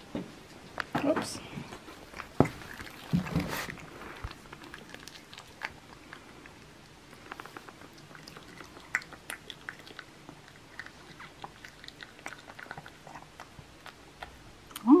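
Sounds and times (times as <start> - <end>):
cat chewing with crunches: 0.7 - 14.9.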